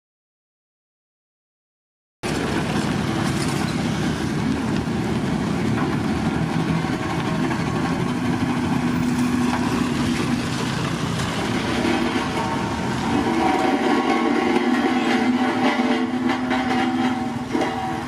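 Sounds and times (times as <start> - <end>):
diesel engine rumbling: 2.2 - 18.0.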